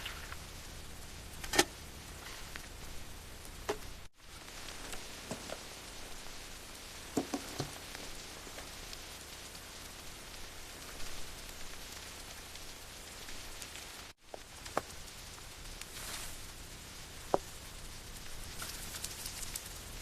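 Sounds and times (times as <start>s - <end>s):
steady rain hissing: 0.0s - 20.0s.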